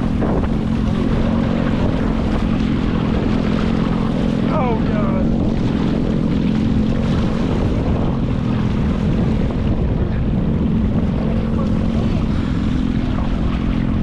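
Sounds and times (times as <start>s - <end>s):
motorboat engine droning: 0.0s - 14.0s
rough water: 0.0s - 14.0s
wind: 0.0s - 14.0s.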